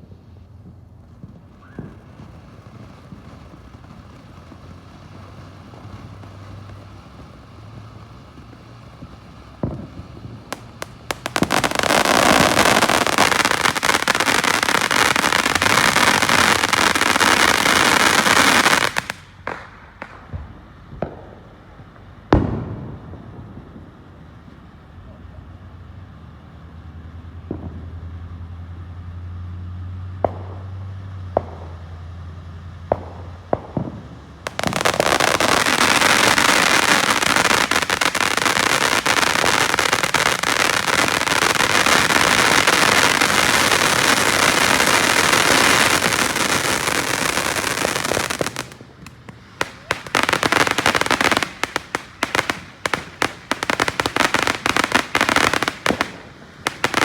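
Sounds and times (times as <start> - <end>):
firework hissing spray: 0.0 - 20.8, 30.5 - 57.0
firework crackling pops: 0.0 - 57.0.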